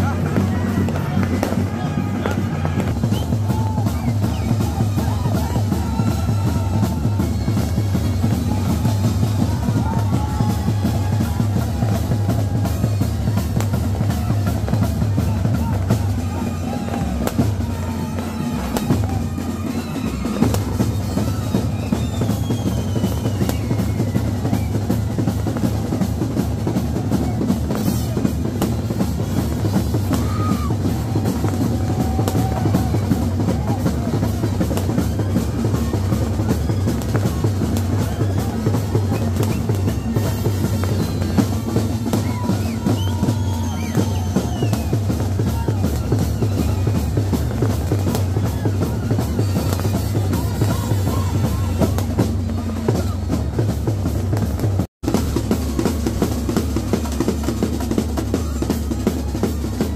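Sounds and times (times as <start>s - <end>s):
drum band playing fast beat: 0.0s - 59.9s
heavy bass drum: 0.0s - 59.9s.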